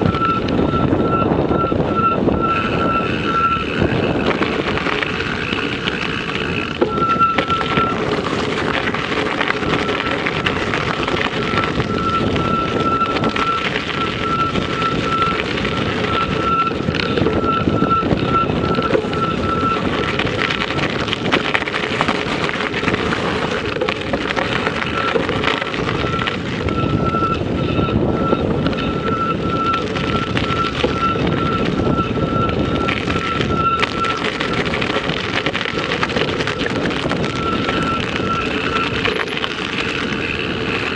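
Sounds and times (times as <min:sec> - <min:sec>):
high pulsing whine: 0:00.0 - 0:40.9
vehicle rumbling on the move: 0:00.0 - 0:40.9
wind buffeting microphone: 0:00.0 - 0:40.9.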